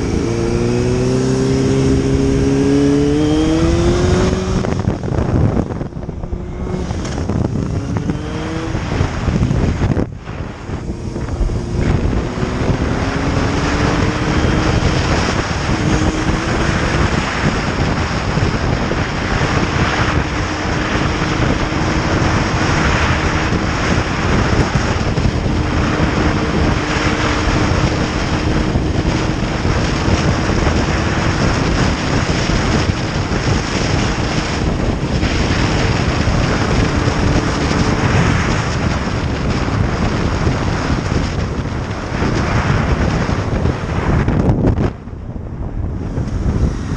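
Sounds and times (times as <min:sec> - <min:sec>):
motorcycle engine accelerating: 0:00.0 - 0:46.9
wind noise on microphone: 0:00.0 - 0:46.9.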